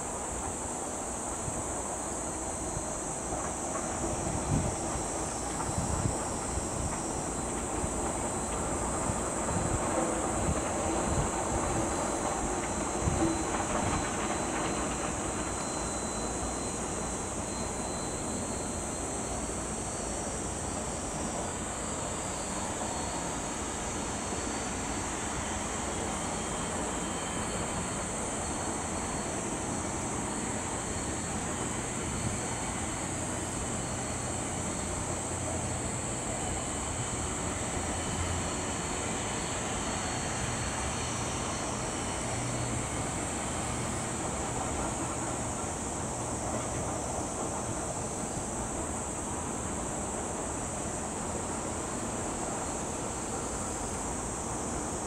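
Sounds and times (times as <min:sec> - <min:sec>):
high-pitched hiss: 0:00.0 - 0:55.0
jet engines running steadily: 0:00.0 - 0:55.0.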